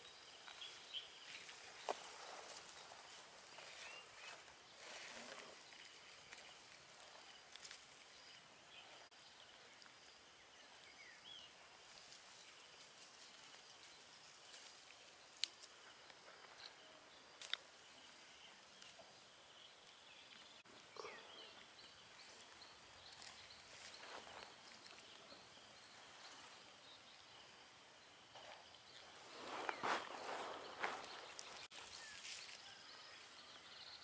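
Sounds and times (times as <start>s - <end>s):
faint chirps: 0.0s - 34.0s.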